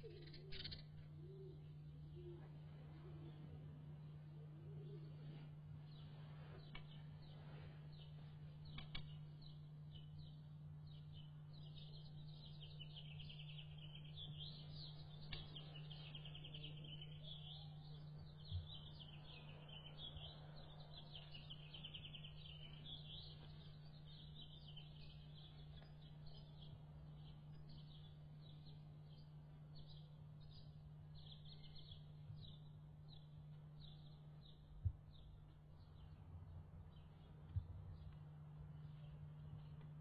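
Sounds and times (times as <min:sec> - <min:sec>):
faint bird chirping and trills: 0:00.0 - 0:40.0
steady low hum: 0:00.0 - 0:40.0.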